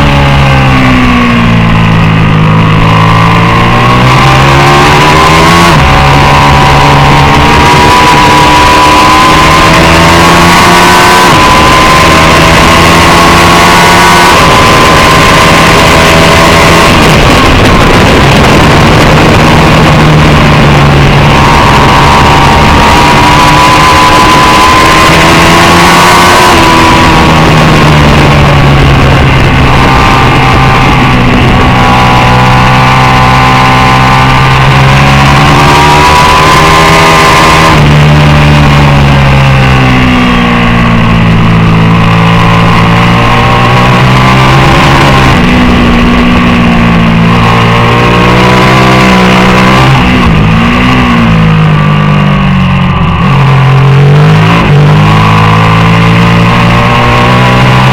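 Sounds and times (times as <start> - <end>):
loud rushing noise: 0.0 - 57.9
racing motorcycle engine revving: 0.0 - 57.9.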